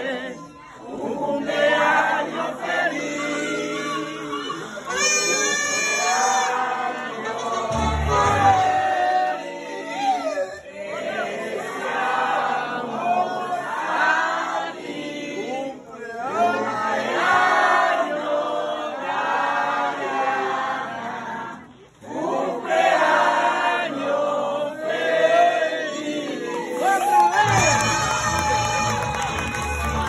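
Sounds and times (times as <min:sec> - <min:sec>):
crowd singing unaccompanied: 0:00.0 - 0:05.0, 0:06.0 - 0:28.0.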